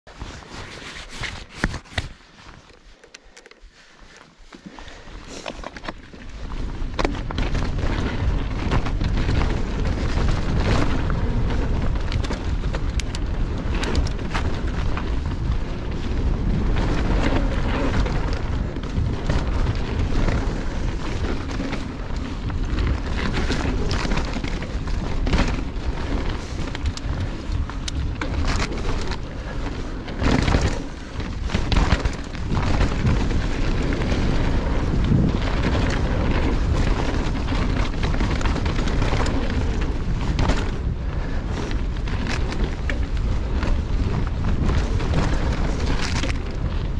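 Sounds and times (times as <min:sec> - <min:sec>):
wind rumbling on microphone: 0:00.0 - 0:46.9
tyres crunching over rocky dirt: 0:04.2 - 0:46.9
bike rattling and knocking: 0:04.6 - 0:46.9.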